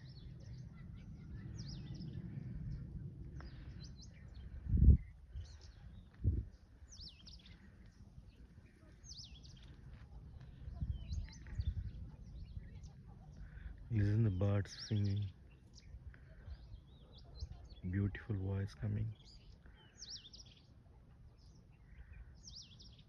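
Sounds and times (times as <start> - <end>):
birds singing: 0.0 - 23.0
low wind-like rumble: 0.0 - 23.0.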